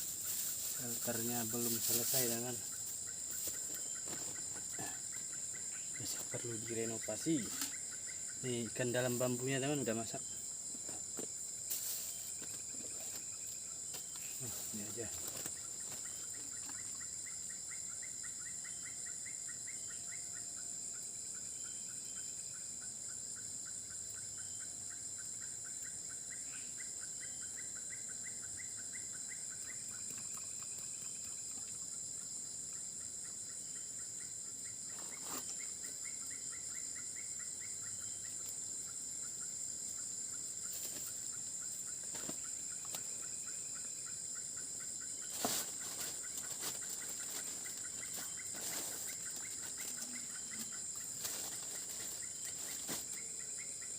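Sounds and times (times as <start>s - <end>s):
insect chorus: 0.0s - 53.9s.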